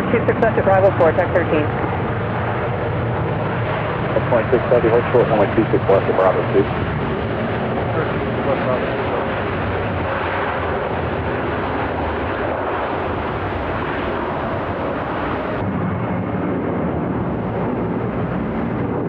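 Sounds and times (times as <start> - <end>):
jet airliner engines running: 0.0 - 19.0.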